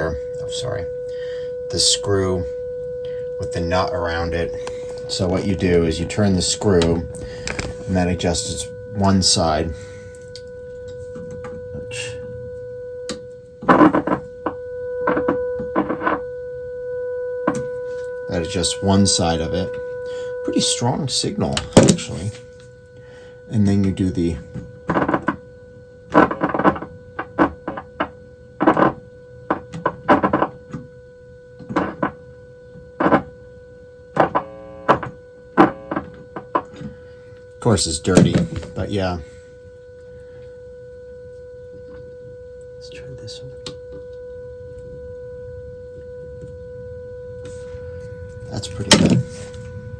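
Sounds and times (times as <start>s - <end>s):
steady test tone from radio speaker: 0.0s - 49.9s.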